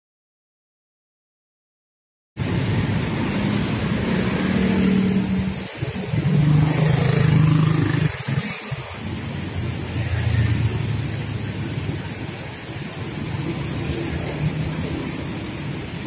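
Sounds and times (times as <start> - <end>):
vehicle engines humming: 2.4 - 16.0.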